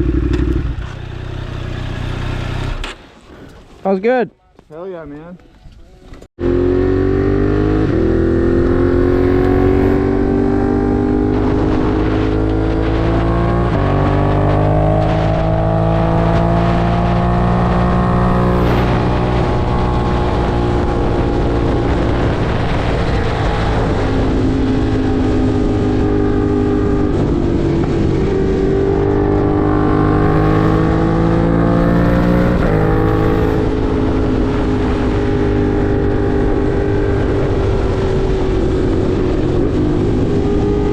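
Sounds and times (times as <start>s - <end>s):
motorcycle engine revving: 0.0s - 3.0s, 6.4s - 40.9s.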